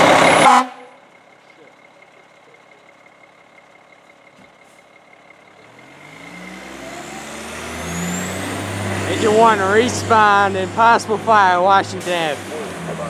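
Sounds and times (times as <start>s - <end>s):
diesel engine idling and revving: 0.0s - 13.0s.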